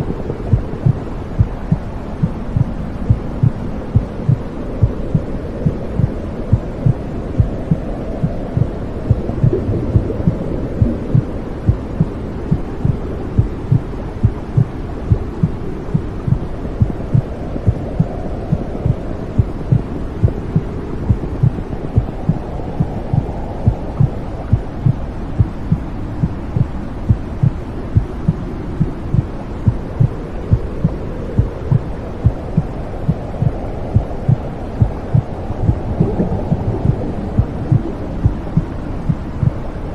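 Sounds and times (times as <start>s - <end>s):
steady low rumble: 0.0s - 39.9s
heartbeat thumps: 0.4s - 39.6s.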